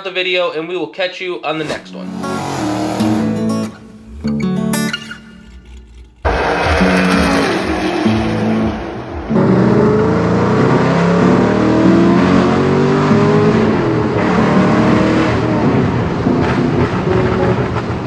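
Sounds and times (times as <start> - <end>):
car engine accelerating hard: 1.7 - 18.0.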